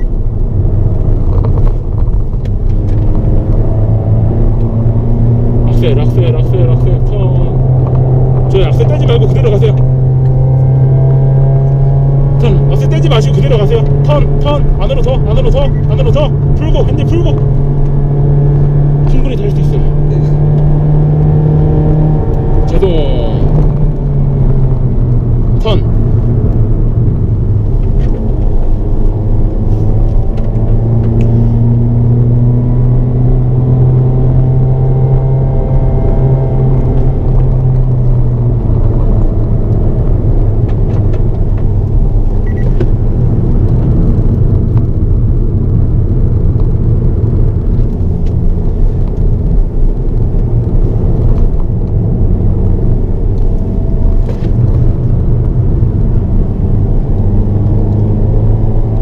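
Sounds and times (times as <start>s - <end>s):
tyre and wind noise: 0.0s - 9.2s, 19.8s - 59.0s.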